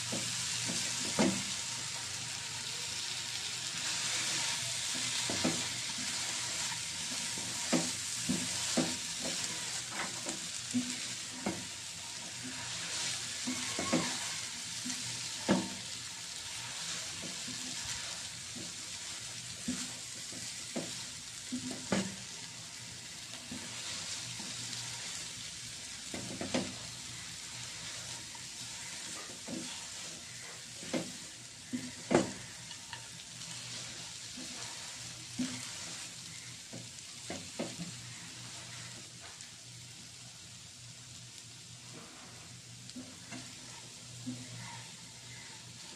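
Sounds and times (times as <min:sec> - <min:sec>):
spatula scraping a pan: 0:00.0 - 0:02.1, 0:03.8 - 0:39.4, 0:41.9 - 0:45.9
vermicelli sizzling in a pan: 0:00.0 - 0:45.9.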